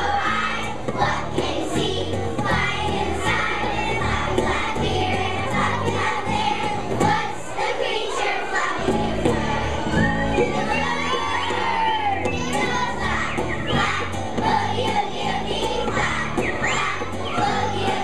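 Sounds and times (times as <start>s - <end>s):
musical accompaniment with bass line: 0.0s - 7.4s, 8.7s - 18.0s
children's choir singing: 0.0s - 18.0s.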